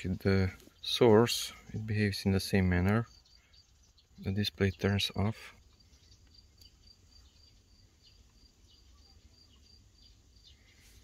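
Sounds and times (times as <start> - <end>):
faint high-pitched chirp: 0.0 - 11.0.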